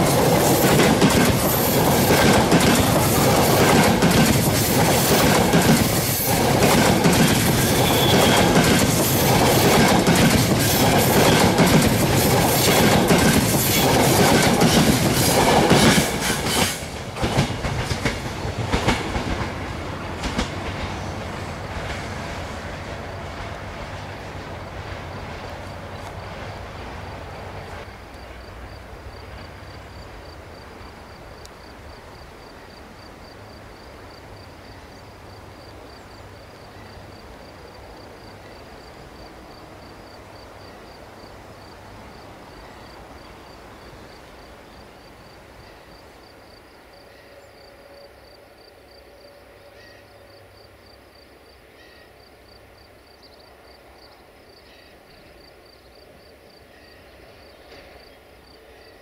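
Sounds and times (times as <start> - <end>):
insect chirping: 0.0 - 17.2, 27.1 - 59.0
train rumbling: 0.0 - 59.0.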